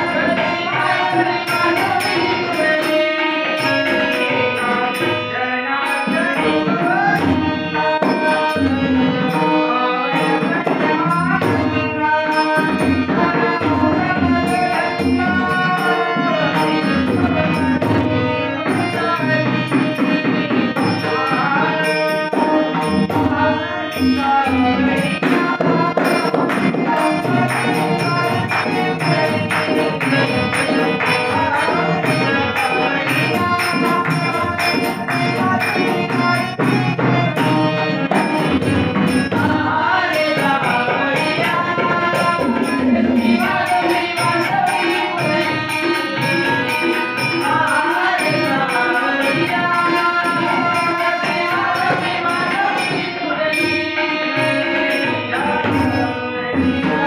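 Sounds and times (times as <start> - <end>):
harmonium: 0.0 - 57.0
men singing together: 0.0 - 57.0
tabla: 0.0 - 57.0.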